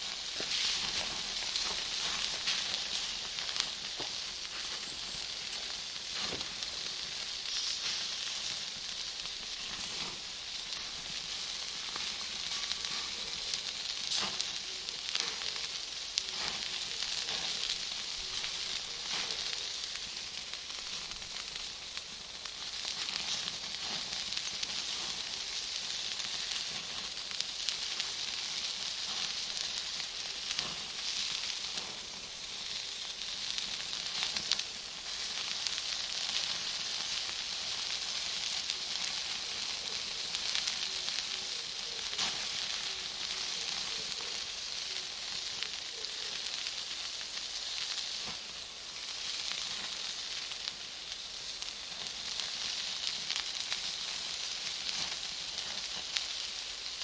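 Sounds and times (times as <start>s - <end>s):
charcoal crackling and popping: 0.0s - 57.0s
fire hissing: 0.0s - 57.0s.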